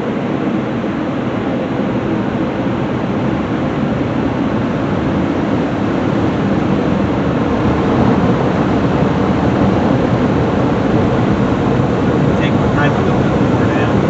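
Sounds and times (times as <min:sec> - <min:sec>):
car wash air dryers blowing: 0:00.0 - 0:14.0.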